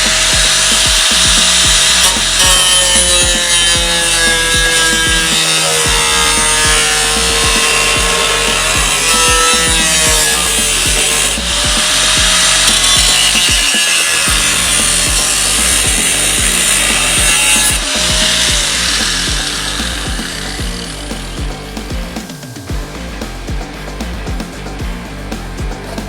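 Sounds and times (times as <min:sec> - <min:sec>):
power tool abrading sheet metal: 0:00.0 - 0:24.4
background music with beat: 0:00.0 - 0:26.0.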